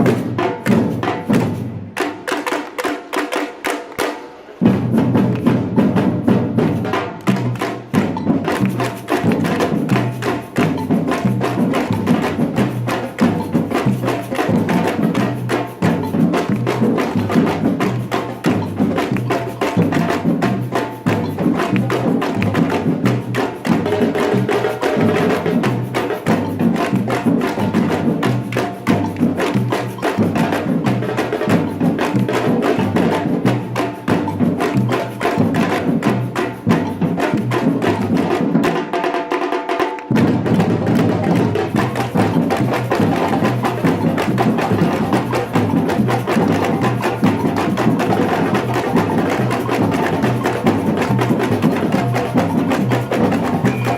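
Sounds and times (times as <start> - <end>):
samba percussion band drumming: 0.0 - 53.9.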